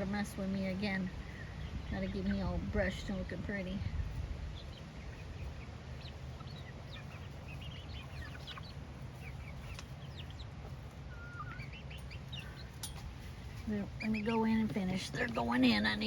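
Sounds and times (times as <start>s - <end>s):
chickens clucking: 0.0s - 16.0s
low steady rumble: 0.0s - 16.0s.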